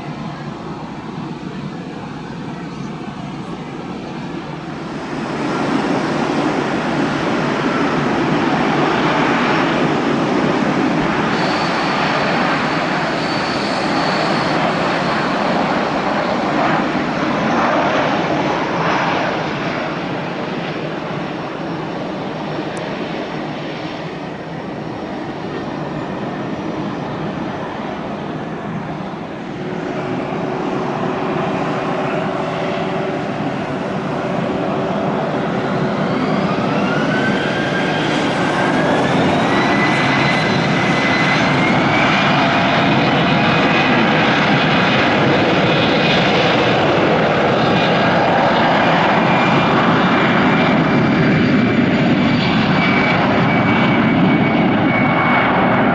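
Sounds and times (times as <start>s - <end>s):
jet airliner engine noise: 0.0s - 55.9s
jet engines humming on takeoff: 0.0s - 55.9s.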